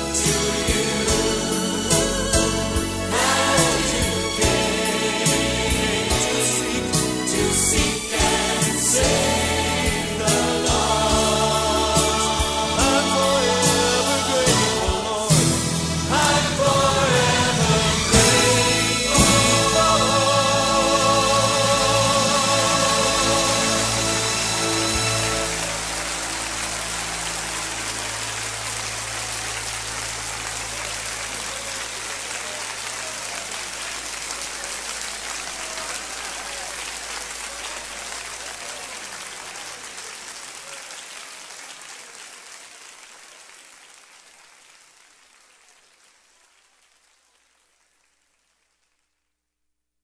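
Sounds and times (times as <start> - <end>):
audience applauding: 0.0 - 49.2.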